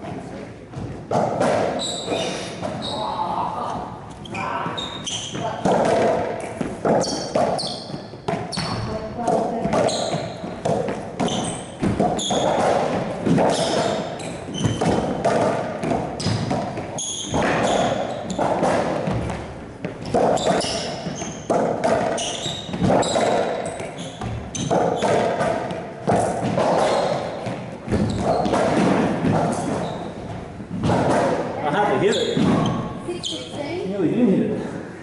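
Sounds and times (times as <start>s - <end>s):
ball smacking court walls: 0.0s - 3.0s, 3.7s - 32.9s
sneakers squeaking on floor: 0.0s - 33.9s.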